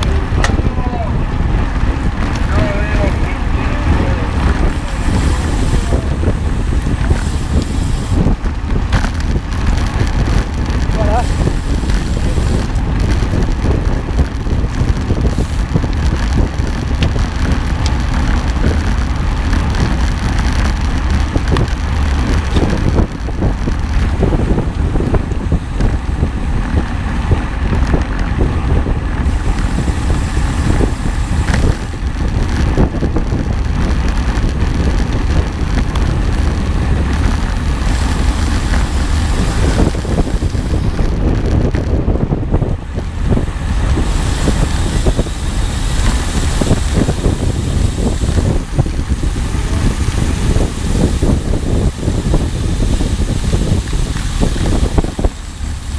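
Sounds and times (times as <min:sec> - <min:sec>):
deep rumble: 0:00.0 - 0:55.9
wind buffeting microphone: 0:00.0 - 0:55.9.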